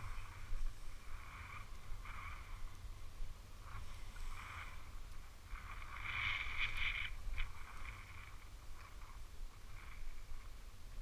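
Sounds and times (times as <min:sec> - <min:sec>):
low rumble: 0:00.0 - 0:11.0
skis swishing over snow: 0:00.0 - 0:11.0.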